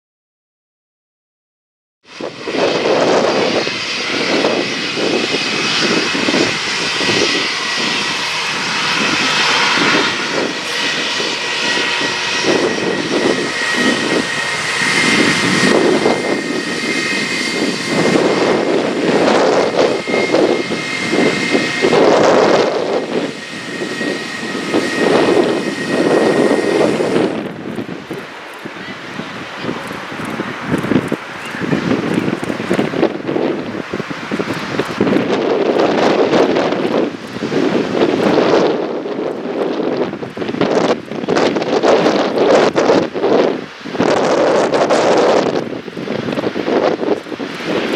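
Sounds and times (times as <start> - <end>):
jet engines roaring and whining: 2.1 - 47.9.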